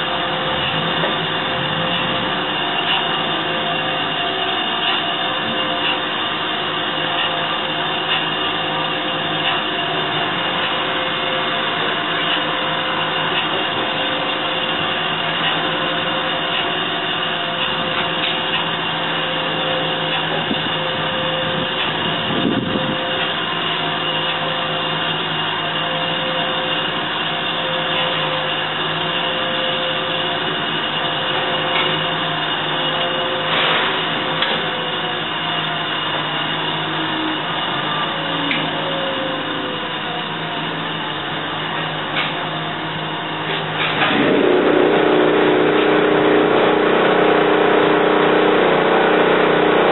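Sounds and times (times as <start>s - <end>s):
surface grinder motor hum: 0.0s - 49.9s.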